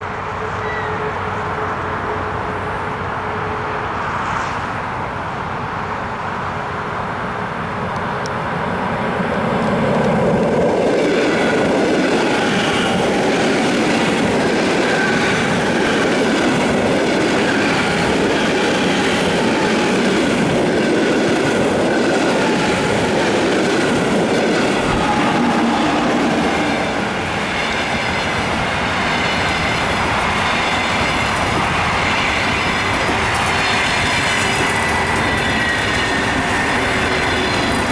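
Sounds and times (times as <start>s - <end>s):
train wheels rushing on rails: 0.0s - 37.9s.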